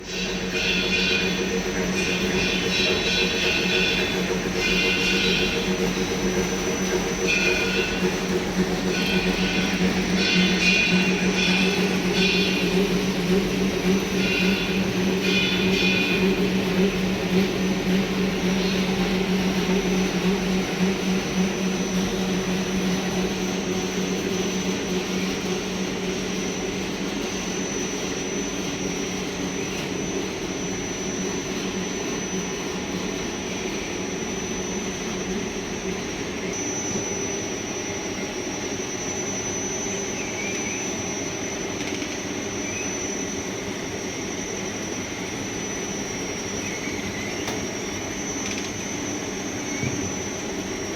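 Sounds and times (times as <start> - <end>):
production line machinery drone: 0.0 - 50.9
thin high whine: 0.0 - 50.9.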